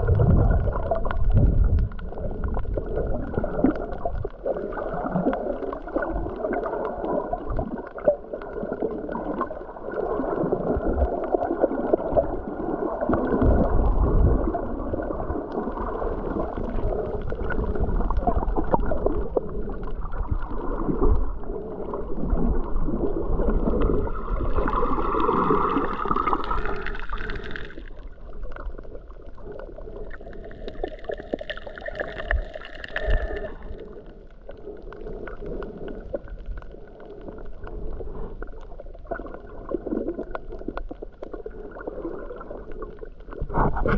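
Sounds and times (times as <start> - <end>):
muffled underwater gurgling: 0.0 - 43.9.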